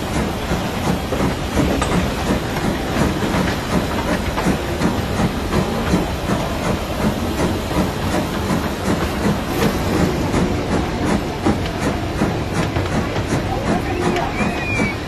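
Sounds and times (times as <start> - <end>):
train wheels clacking on track: 0.0 - 15.0.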